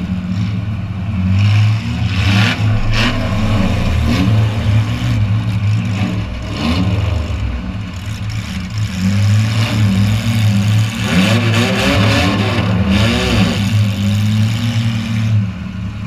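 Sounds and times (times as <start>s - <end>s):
engine revving: 1.4s - 15.3s.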